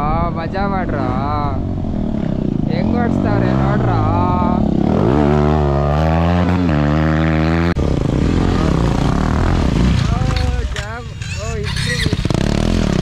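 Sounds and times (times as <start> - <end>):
dirt bike engine revving: 0.6 - 13.0.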